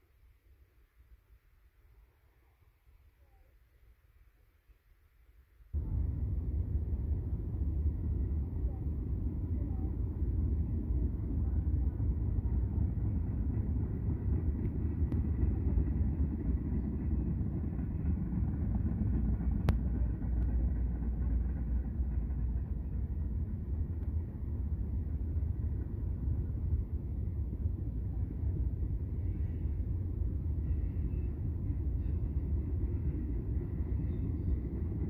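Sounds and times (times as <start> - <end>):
distant freight train rumbling: 5.8 - 35.0.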